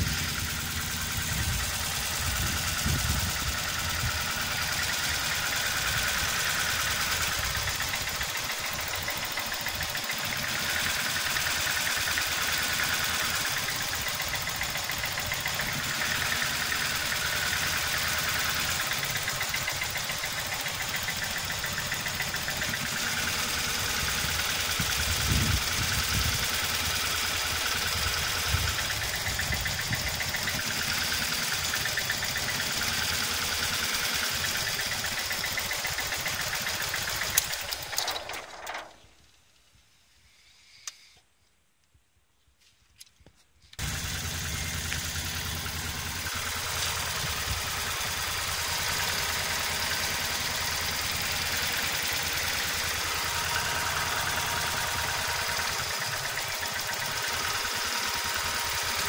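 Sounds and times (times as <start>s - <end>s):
car engine idling with ticking: 0.0s - 38.1s, 43.8s - 59.0s.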